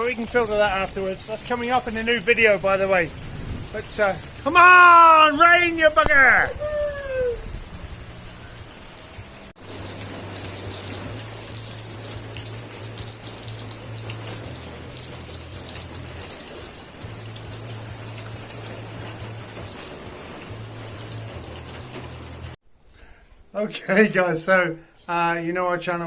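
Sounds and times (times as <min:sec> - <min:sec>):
heavy rain falling: 0:00.0 - 0:22.6.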